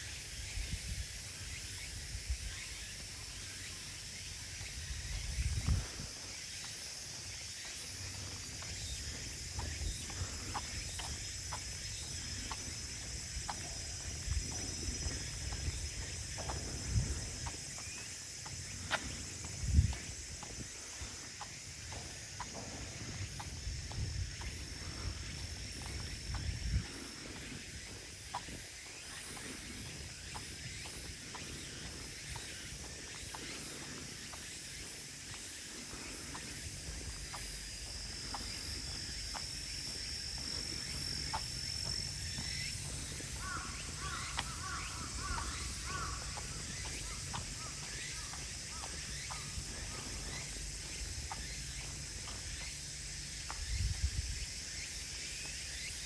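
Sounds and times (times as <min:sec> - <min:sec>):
footsteps on woodland path: 0:00.0 - 0:56.0
high insect trill: 0:00.0 - 0:56.0
insects chorus: 0:00.0 - 0:56.0.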